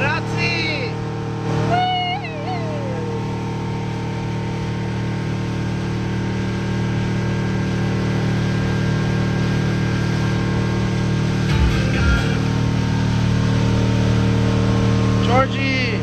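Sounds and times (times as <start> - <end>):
motorboat engine drone: 0.0 - 16.0.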